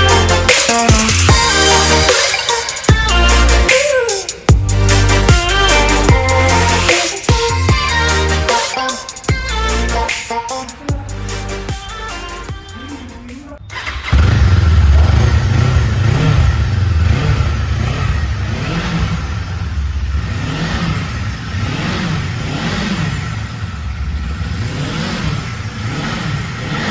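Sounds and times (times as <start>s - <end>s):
motorcycle engine revving: 0.0s - 10.1s, 13.6s - 26.9s.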